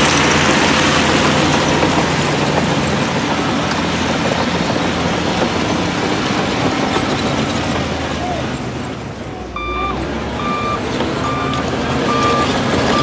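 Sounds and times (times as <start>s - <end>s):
diesel earthmoving machinery running: 0.0s - 13.0s.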